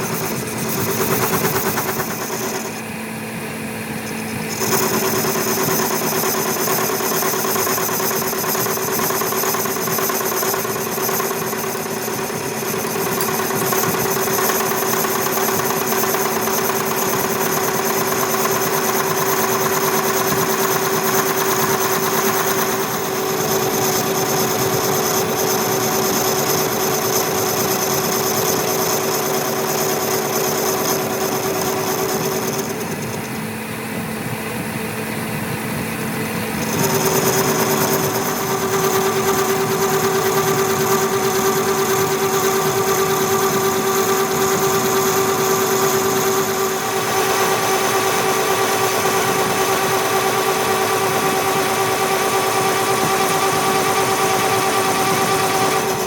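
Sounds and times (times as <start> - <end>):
machine whining: 0.0 - 56.0.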